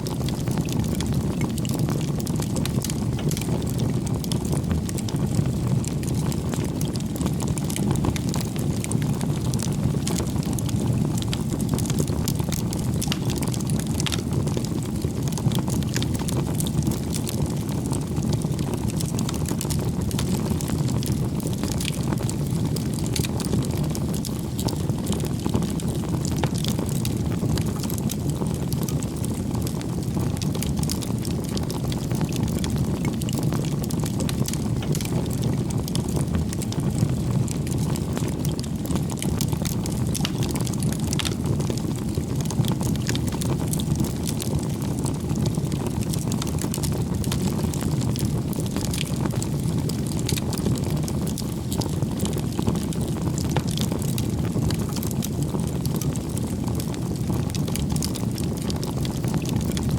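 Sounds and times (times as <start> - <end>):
bonfire flames rumbling: 0.0 - 59.9
fire crackling and popping: 0.0 - 59.9.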